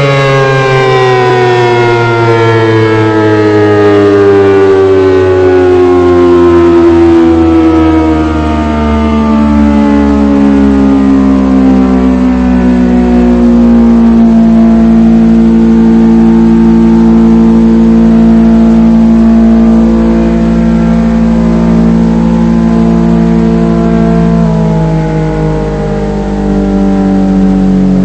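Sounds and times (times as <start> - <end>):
outdoor warning siren: 0.0 - 28.0.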